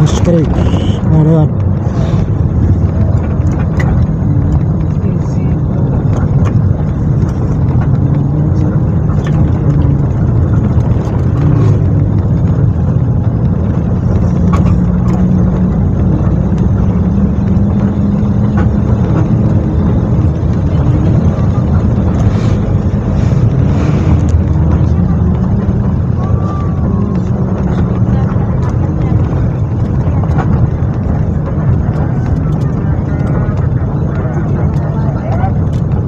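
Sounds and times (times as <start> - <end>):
bus engine and road drone: 0.0 - 36.0.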